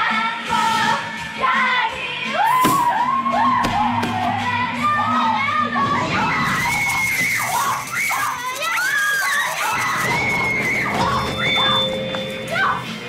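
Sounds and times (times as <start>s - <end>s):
women screaming and shrieking: 2.4s - 12.9s.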